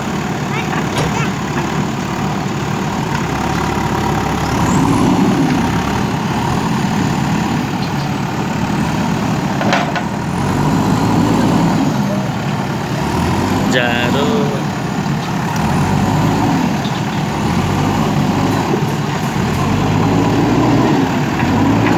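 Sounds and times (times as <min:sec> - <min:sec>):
backhoe diesel engine running: 0:00.0 - 0:21.9.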